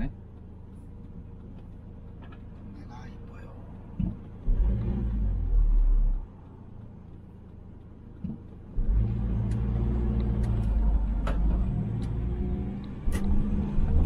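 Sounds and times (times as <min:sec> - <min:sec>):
car engine drone from inside: 0:00.0 - 0:14.0.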